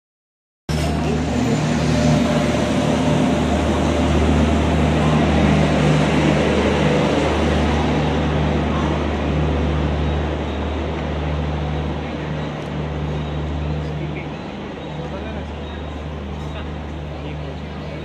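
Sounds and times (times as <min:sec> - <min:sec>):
locomotive low hum: 0:00.7 - 0:18.0
train running noise: 0:00.7 - 0:18.0.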